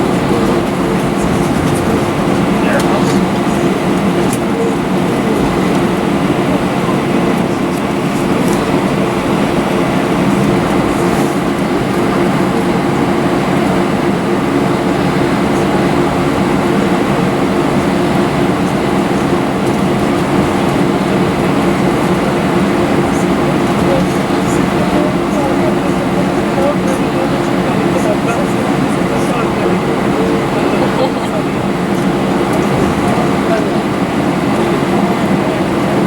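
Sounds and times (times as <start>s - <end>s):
airliner cabin roar: 0.0s - 36.0s.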